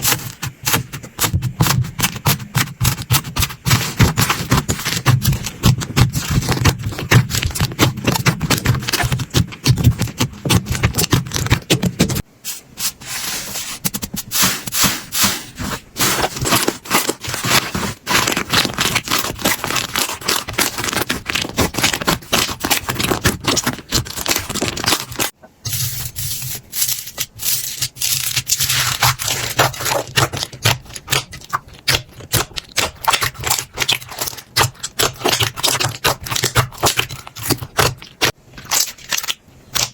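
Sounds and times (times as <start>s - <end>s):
hands squishing slime: 0.0s - 12.2s, 12.8s - 25.4s, 26.1s - 39.9s.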